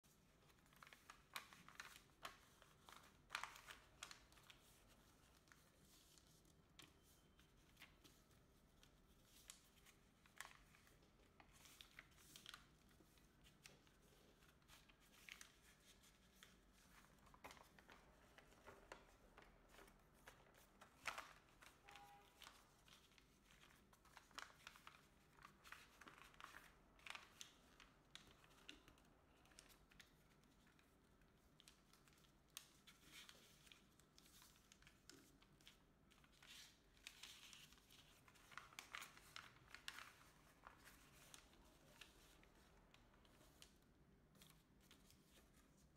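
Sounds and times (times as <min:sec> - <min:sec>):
paper rustling and crinkling: 0:00.0 - 0:45.9.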